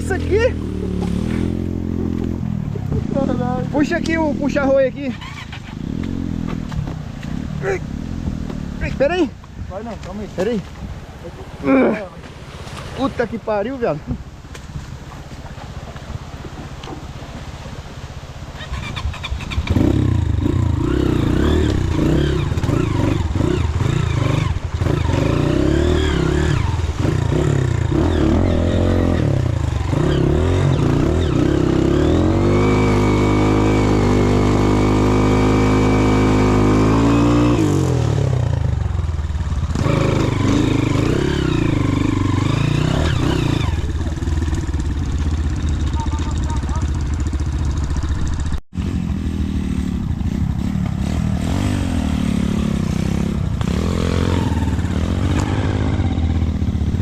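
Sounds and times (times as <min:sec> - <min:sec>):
motorcycle engine revving: 0:00.0 - 0:09.4, 0:18.4 - 0:57.0.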